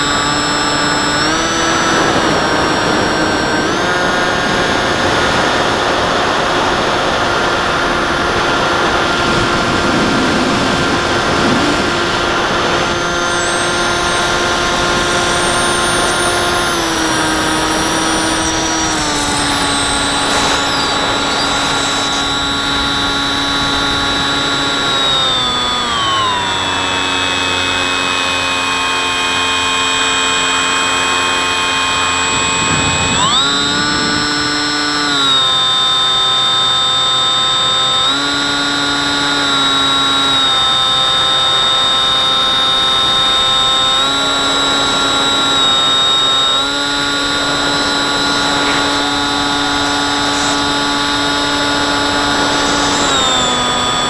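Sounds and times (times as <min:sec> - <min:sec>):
model plane motor whining: 0:00.0 - 0:54.0.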